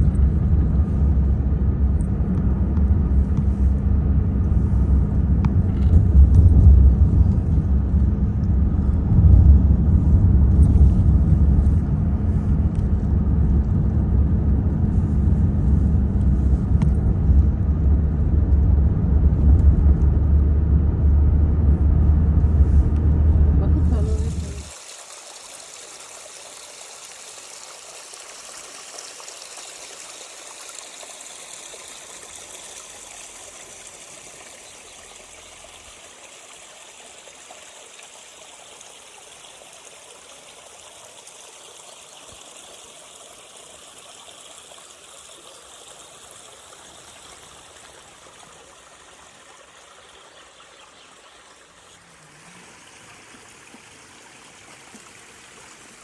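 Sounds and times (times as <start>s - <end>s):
stream flowing and trickling: 0.0s - 2.1s, 2.8s - 18.2s, 22.4s - 56.0s.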